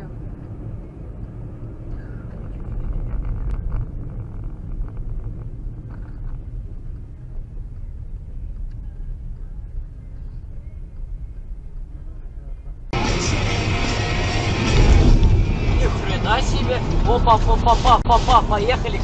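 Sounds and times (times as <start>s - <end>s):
vehicle driving on snowy road: 0.0s - 19.0s.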